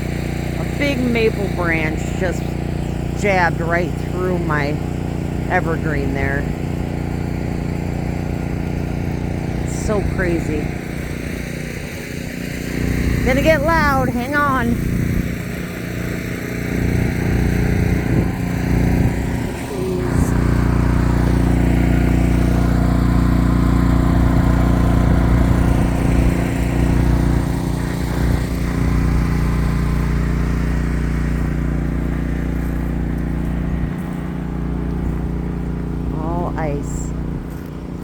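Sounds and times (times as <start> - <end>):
portable generator engine running: 0.0 - 38.0.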